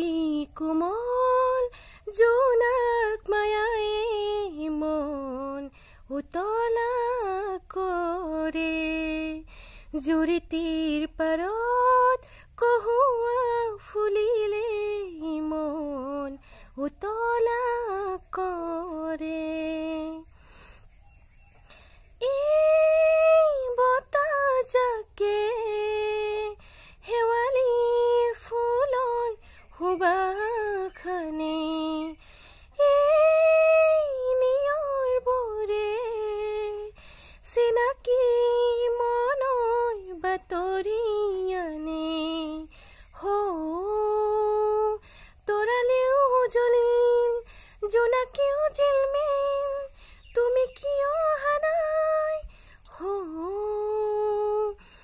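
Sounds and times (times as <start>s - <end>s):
woman singing wordless tune: 0.0s - 55.0s.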